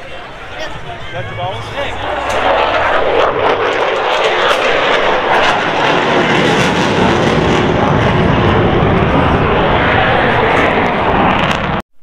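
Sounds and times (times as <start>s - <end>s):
aircraft engine noise: 0.0s - 11.8s
deep rumble: 0.0s - 11.8s.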